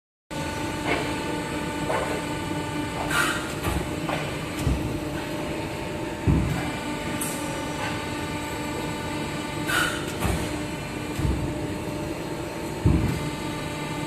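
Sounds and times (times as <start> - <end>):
bending machine humming: 0.3 - 14.0.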